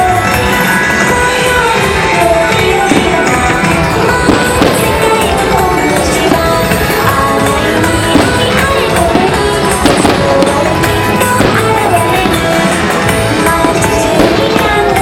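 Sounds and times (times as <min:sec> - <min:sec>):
fireworks bangs and crackles: 0:00.0 - 0:15.0
loud music: 0:00.0 - 0:15.0.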